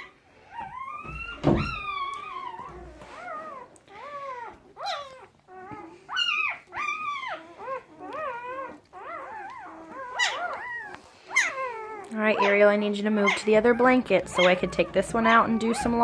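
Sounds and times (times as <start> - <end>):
puppies squealing: 0.0 - 16.0.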